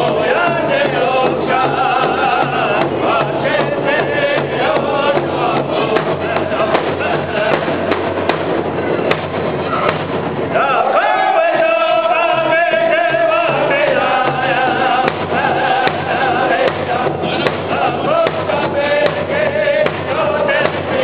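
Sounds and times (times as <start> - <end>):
men singing in unison: 0.0 - 8.2, 10.5 - 21.0
large drum steady beat: 0.0 - 21.0.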